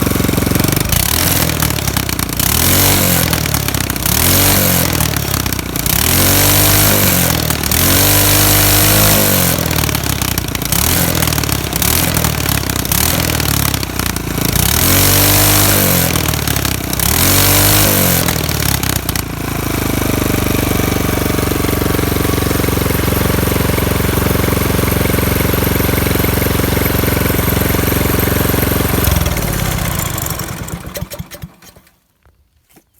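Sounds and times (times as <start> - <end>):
small engine revving and idling: 0.0 - 32.1.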